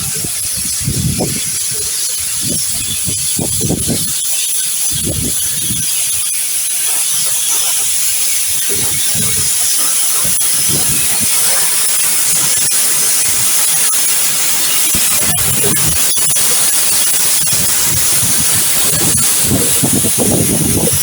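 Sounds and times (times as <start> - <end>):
steam hissing: 0.0 - 21.0.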